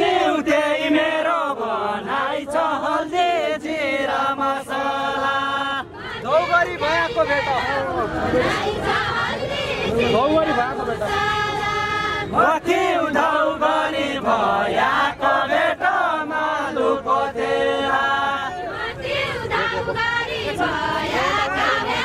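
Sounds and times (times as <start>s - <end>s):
men singing in unison: 0.0s - 6.5s, 7.7s - 22.0s.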